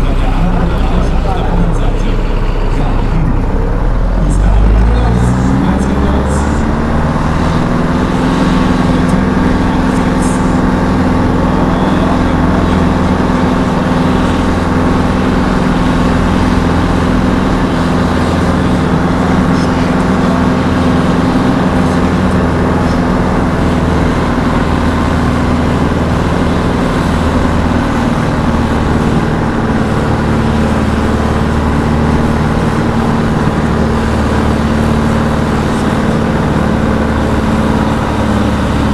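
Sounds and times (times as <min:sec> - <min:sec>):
tractor diesel engine running hard: 0:00.0 - 0:38.9.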